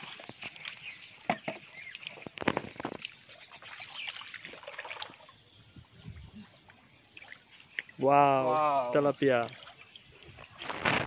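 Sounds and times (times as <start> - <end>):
water splashing around wading legs: 0.0 - 11.0.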